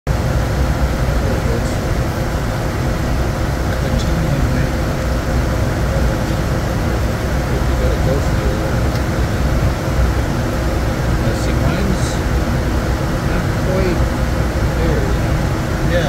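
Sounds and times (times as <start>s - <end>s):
faint steady hum: 0.1s - 16.0s
jet cockpit rumble and air rush: 0.1s - 16.0s.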